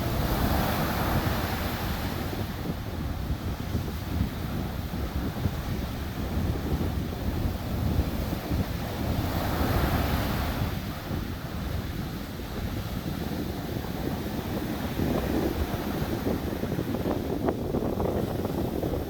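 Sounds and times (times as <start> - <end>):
surf breaking on a beach: 0.0 - 19.0
wind buffeting microphone: 0.0 - 19.0.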